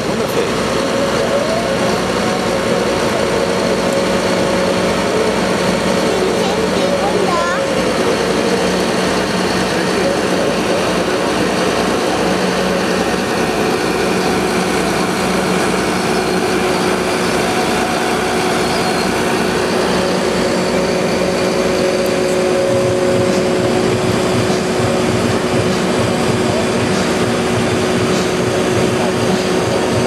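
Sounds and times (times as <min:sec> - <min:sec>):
diesel truck engine running: 0:00.0 - 0:30.0
steady whine: 0:00.0 - 0:30.0.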